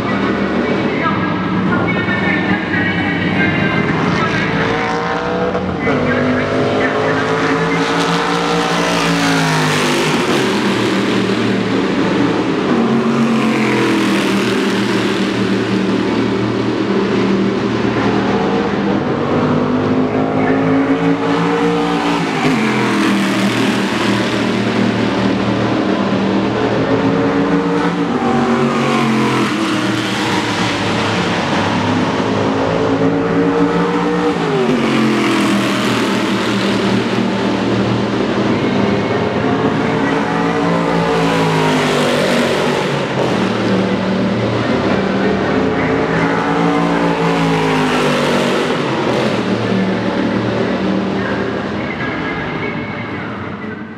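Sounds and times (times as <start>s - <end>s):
racing car engines at speed: 0.0s - 53.9s.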